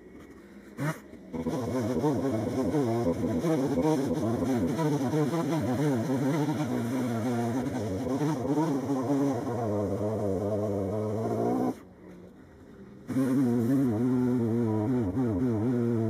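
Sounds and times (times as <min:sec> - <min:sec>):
chainsaw engine running: 0:00.7 - 0:11.9, 0:13.1 - 0:16.0.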